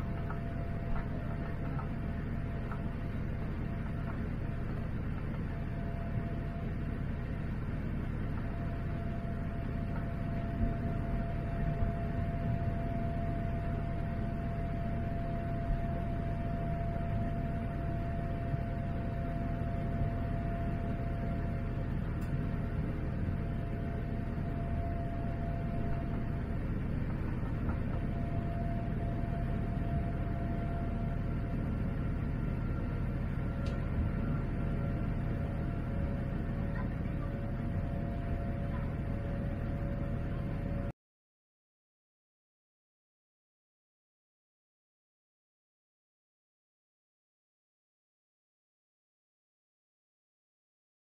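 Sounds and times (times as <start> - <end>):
engine and airflow rumble: 0.0 - 40.9.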